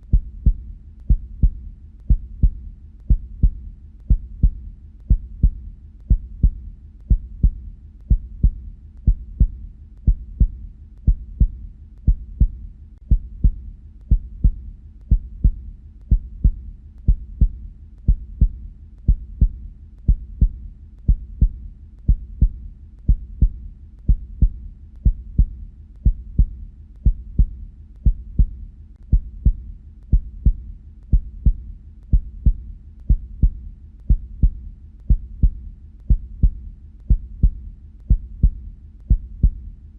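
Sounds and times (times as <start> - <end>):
human heartbeat: 0.0 - 39.9.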